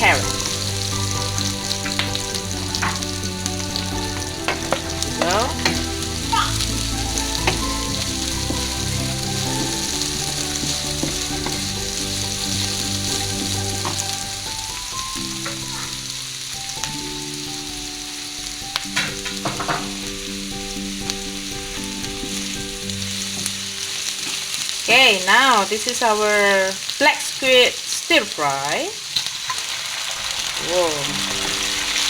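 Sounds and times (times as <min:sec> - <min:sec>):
soft background music: 0:00.0 - 0:26.4, 0:30.6 - 0:32.0
aromatics sizzling in oil: 0:00.0 - 0:32.0.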